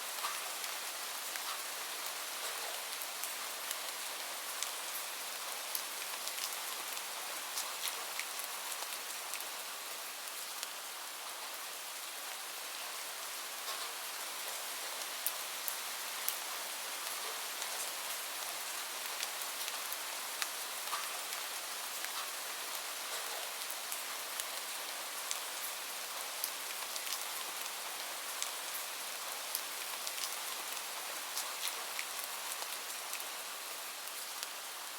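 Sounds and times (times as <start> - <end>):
steady rain hiss: 0.0 - 34.9
sharp rain ticks: 0.1 - 5.1, 5.7 - 9.5, 13.6 - 14.0, 15.0 - 27.8, 28.4 - 34.6.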